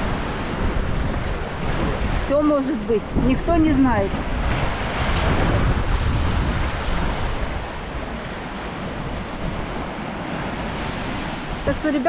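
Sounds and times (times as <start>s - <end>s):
sea surf washing onto beach: 0.0s - 12.0s
wind rumbling on microphone: 0.0s - 12.0s.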